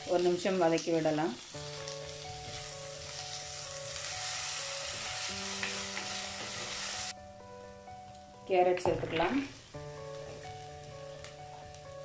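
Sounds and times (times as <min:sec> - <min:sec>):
food sizzling in oil: 0:00.0 - 0:07.2, 0:09.1 - 0:12.0
soft background music: 0:00.0 - 0:12.0.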